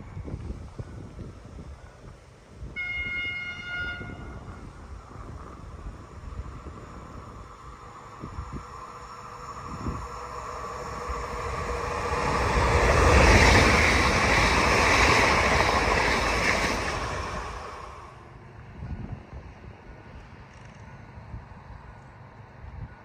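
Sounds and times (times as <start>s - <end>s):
train passing: 0.0s - 22.8s.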